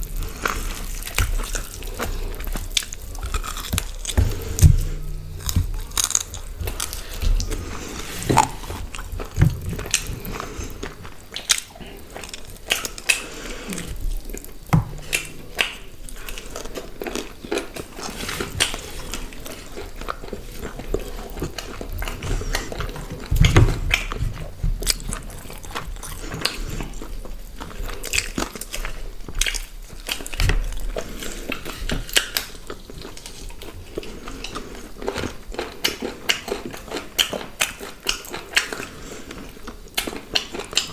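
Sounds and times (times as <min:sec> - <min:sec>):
food crunching: 0:00.0 - 0:40.9
people chewing food: 0:00.0 - 0:40.9.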